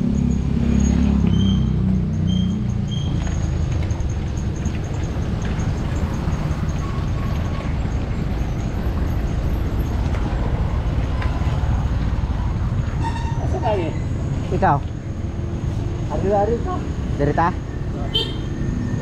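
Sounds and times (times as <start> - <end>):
bike tyres rumbling on concrete: 0.1 - 15.5.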